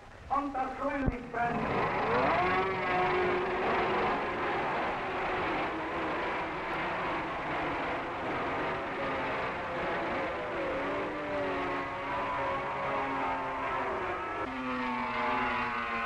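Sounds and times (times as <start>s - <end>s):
steady rushing noise: 0.0s - 14.4s
racing motorcycle engines: 0.0s - 16.0s.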